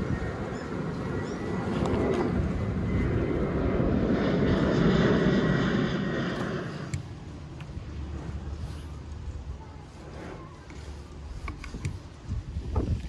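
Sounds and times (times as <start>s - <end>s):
engine rumble passing by: 0.0s - 11.3s.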